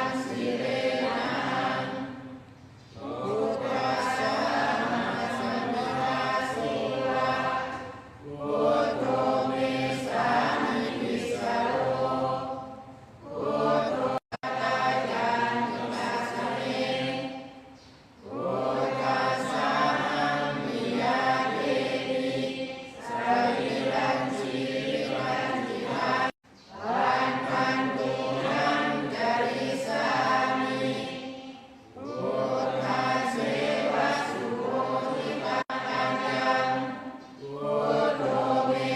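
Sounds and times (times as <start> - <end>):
group of voices chanting in unison: 0.0 - 38.9.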